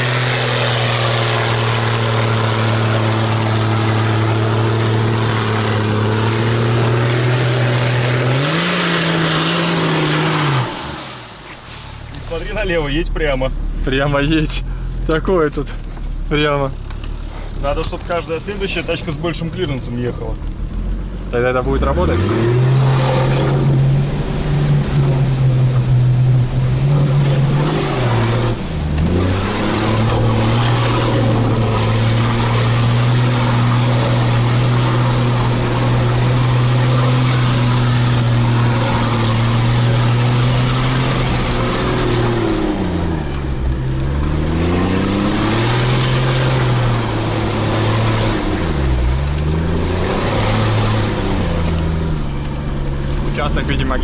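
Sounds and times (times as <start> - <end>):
engine pulling at low revs: 0.0 - 54.0.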